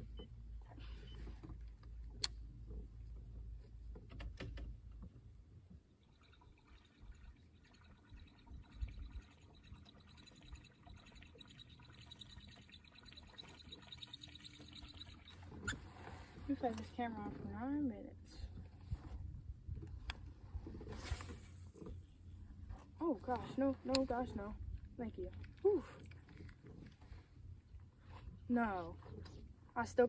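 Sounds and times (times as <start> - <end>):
water lapping and trickling: 0.0 - 30.0.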